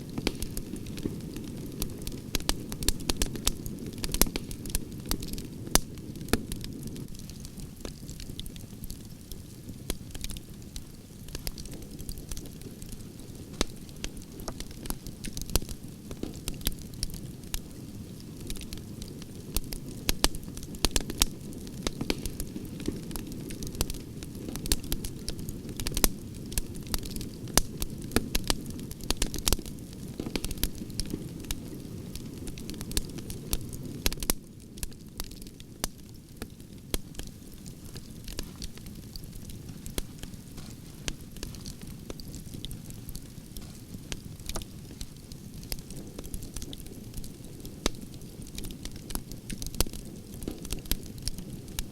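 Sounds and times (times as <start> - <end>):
campfire crackling and popping: 0.0 - 51.9
low rumble of flames: 0.0 - 51.9.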